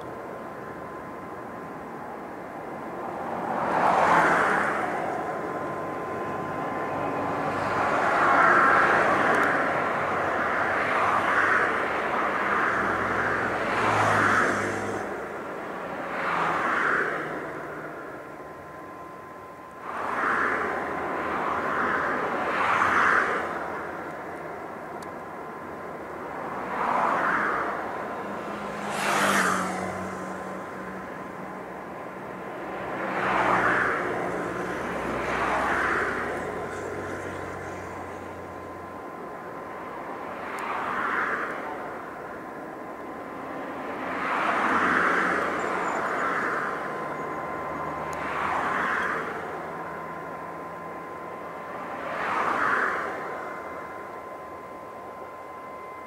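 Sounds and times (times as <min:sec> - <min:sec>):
faint steady whine: 0:00.0 - 0:56.0
turboprop aircraft engine: 0:00.0 - 0:56.0
rushing noise: 0:00.1 - 0:56.0.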